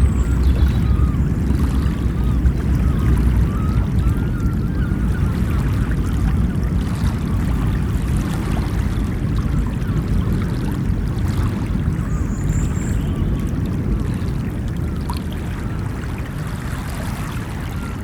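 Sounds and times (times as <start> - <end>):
ocean surf washing: 0.0 - 18.0.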